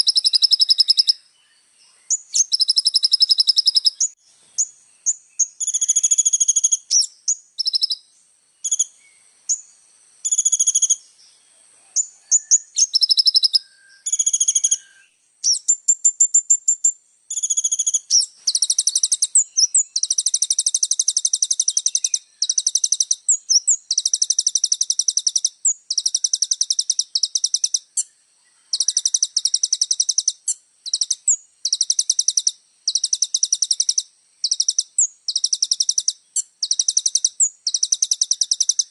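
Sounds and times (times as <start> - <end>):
sunbird singing high trills: 0.0 - 38.9.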